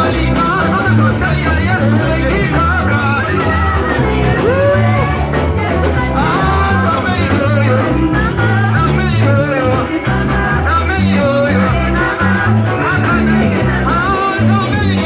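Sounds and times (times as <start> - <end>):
repeating bass line: 0.0 - 15.0
singing over a band: 0.0 - 15.0.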